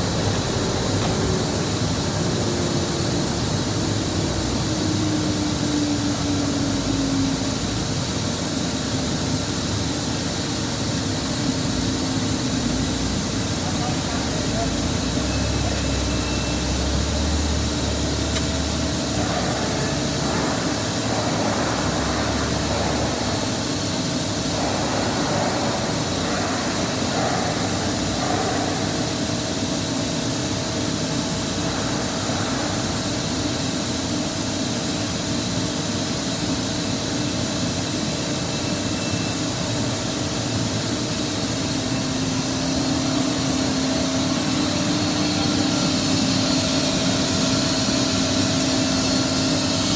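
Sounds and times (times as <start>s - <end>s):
boiler roaring and hissing: 0.0s - 35.2s, 40.5s - 49.9s.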